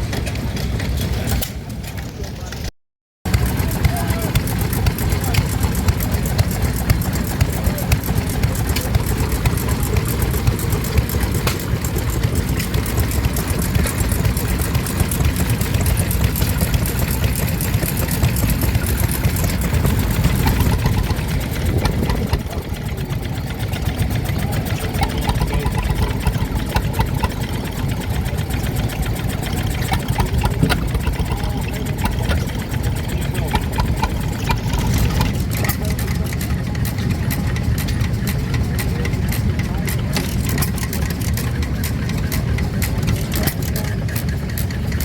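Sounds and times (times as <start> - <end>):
stationary engines idling: 0.0 - 2.7, 3.3 - 45.0.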